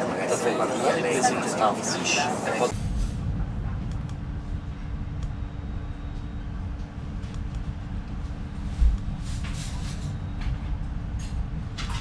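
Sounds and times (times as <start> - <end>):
train interior rumble: 0.0 - 12.0
faint steady hum: 0.1 - 12.0.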